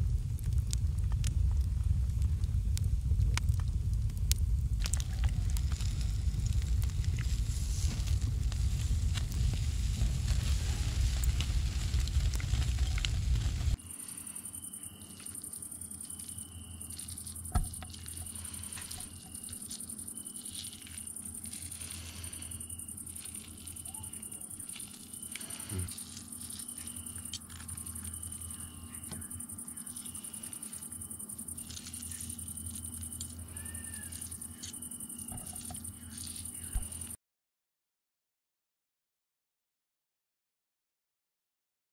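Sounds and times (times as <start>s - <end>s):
crickets chirping: 0.0s - 37.2s
low steady hum: 0.0s - 37.2s.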